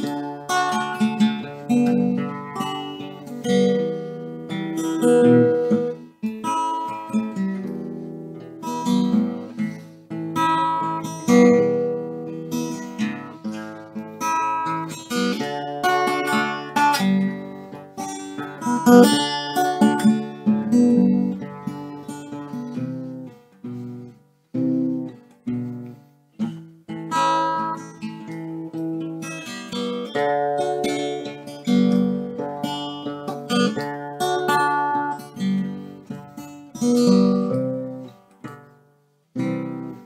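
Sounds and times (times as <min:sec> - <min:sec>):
acoustic guitar picking and strumming: 0:00.0 - 0:40.0.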